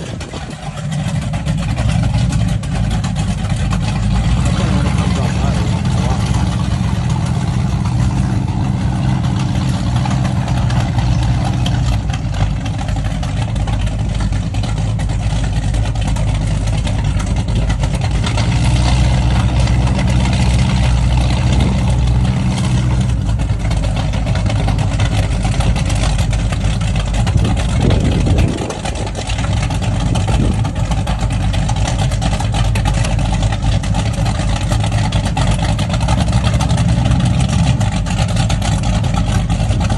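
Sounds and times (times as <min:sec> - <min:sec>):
powerboat engines running: 0:00.0 - 0:39.9.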